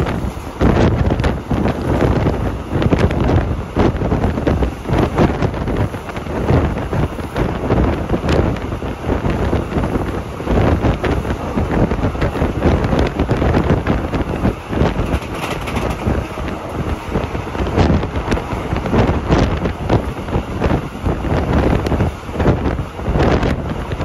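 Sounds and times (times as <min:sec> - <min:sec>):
train running noise: 0:00.0 - 0:24.0
wind buffeting microphone: 0:00.0 - 0:24.0.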